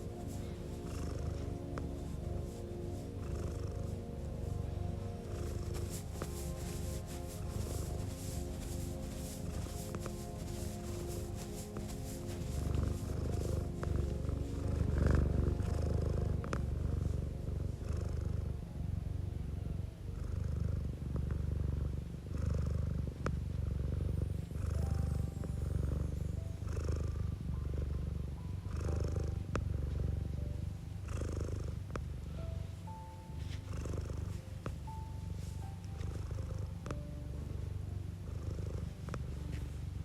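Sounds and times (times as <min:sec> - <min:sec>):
cat purring: 0:00.0 - 0:40.0
soft background music: 0:00.0 - 0:40.0.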